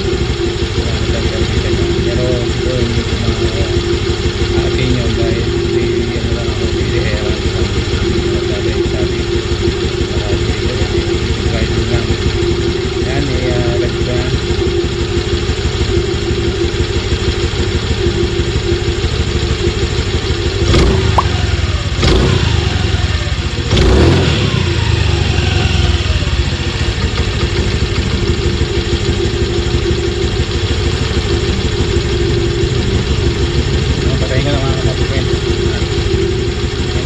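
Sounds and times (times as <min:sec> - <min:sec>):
scooter engine idling and revving: 0:00.0 - 0:37.0.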